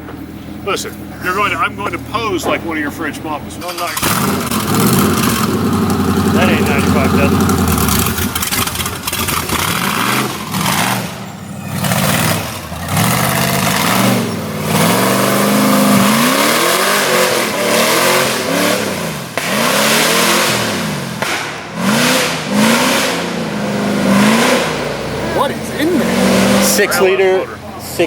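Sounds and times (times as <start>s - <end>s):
engine revving hard: 1.3s - 27.4s.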